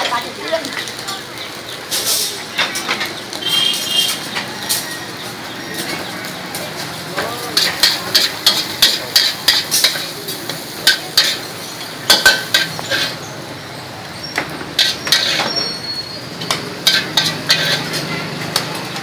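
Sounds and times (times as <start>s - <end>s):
food sizzling: 0.0s - 19.0s
metal spatula scraping wok: 1.9s - 6.0s, 6.9s - 18.9s.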